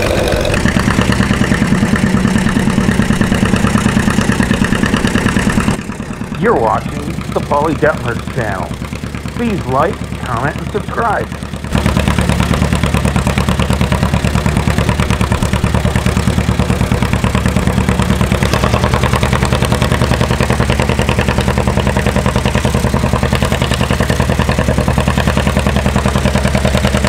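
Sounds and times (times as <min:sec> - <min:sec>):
tractor engine under heavy load: 0:00.0 - 0:27.0.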